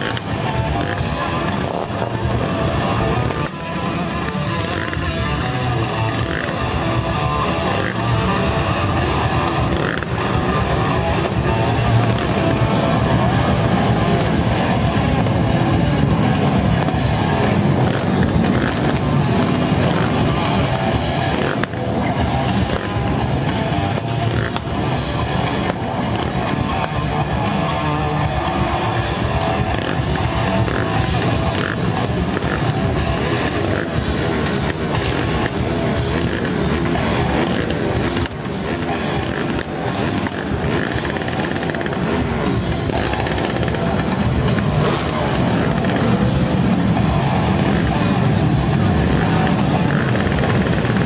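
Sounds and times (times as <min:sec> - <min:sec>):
drum kit: 0:00.0 - 0:51.0
electric guitar: 0:00.0 - 0:51.0
live rock music: 0:00.0 - 0:51.0
motorcycle engine revving: 0:00.0 - 0:51.0.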